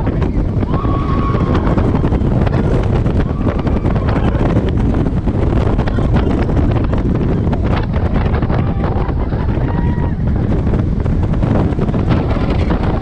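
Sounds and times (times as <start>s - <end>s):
roller coaster rumble and clicks: 0.0s - 13.0s
wind buffeting microphone: 0.0s - 13.0s.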